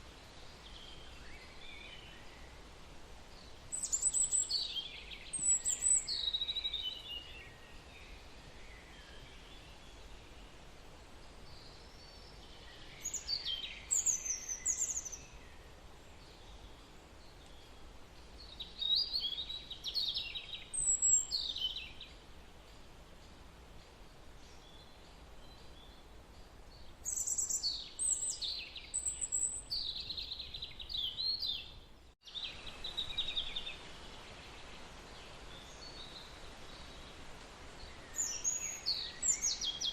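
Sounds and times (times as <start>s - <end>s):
steady background hiss: 0.0s - 39.9s
birds chirping: 3.4s - 10.6s, 11.2s - 39.9s.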